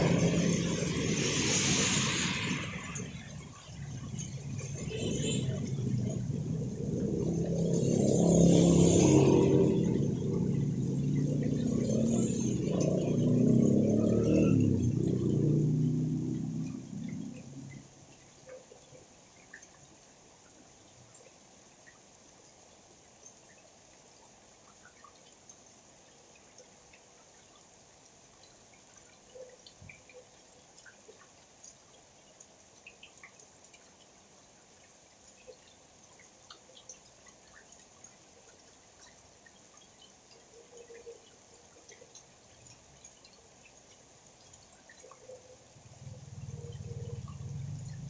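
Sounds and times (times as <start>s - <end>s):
drips of raindrops: 0.0s - 48.0s
faint rain hiss: 0.0s - 48.0s.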